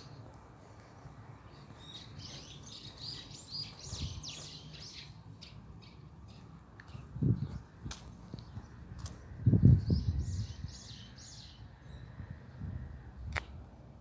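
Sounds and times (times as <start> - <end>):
songbird chirping: 0.0 - 12.4.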